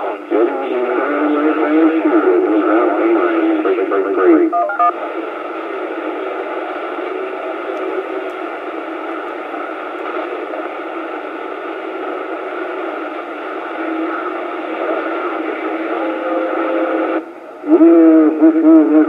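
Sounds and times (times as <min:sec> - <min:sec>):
faint weak radio tones: 0:00.0 - 0:19.0
radio static hiss: 0:00.0 - 0:19.0.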